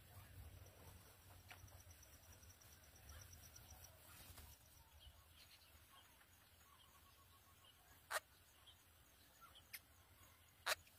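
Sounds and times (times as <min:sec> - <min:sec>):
faint bird chirps: 0:00.0 - 0:10.9.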